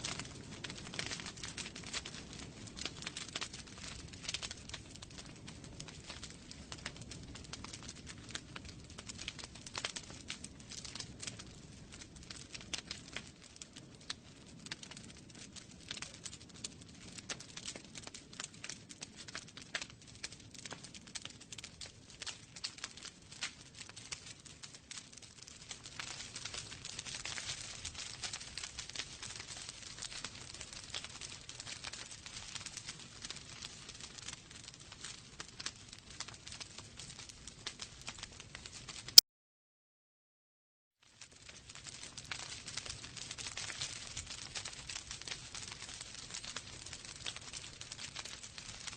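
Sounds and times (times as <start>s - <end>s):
low rumble of flames: 0.0s - 39.2s, 41.0s - 48.9s
wood fire crackling: 0.0s - 39.2s, 41.0s - 48.9s.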